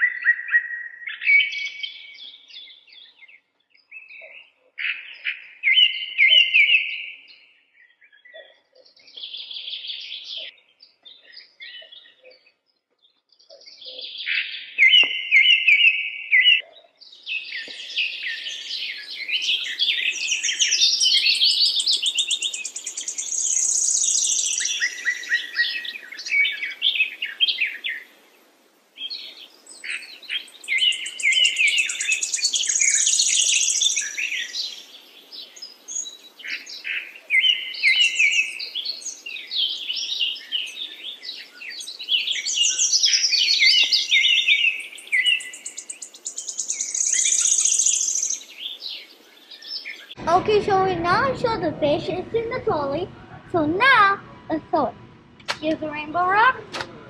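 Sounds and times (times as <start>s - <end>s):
finches chirping and twittering: 0.1s - 28.1s, 29.0s - 50.2s.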